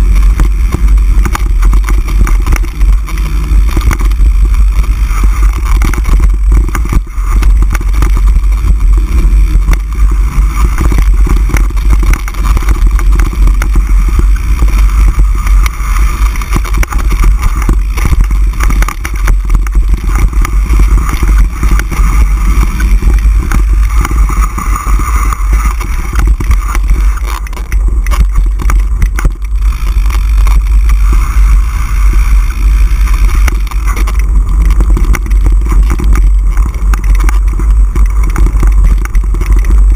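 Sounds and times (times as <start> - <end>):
bike rattling and knocking: 0.0 - 39.9
wind rumbling over microphone: 0.0 - 39.9.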